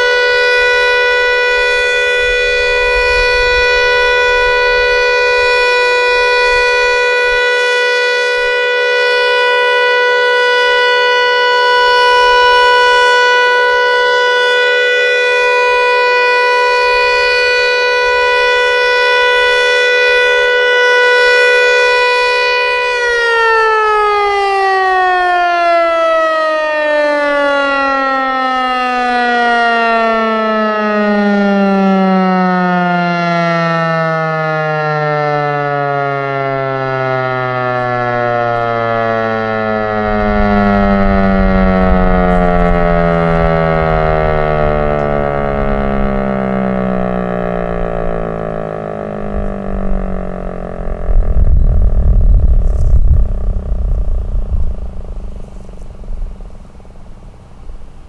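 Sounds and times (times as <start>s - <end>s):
tornado siren: 0.0s - 58.0s.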